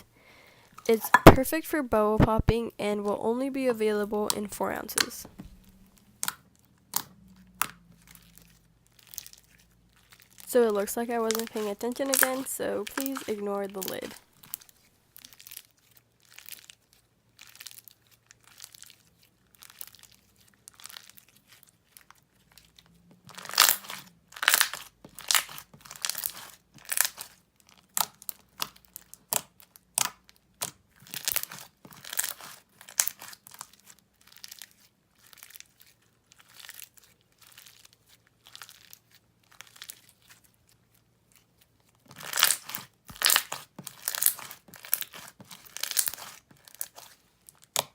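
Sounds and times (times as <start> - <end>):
slime crackling and popping: 4.2 - 47.9.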